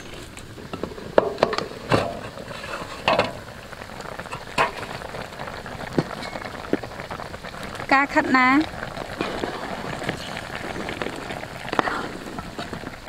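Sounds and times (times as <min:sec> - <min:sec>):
sauce bubbling and sizzling: 0:00.0 - 0:13.0.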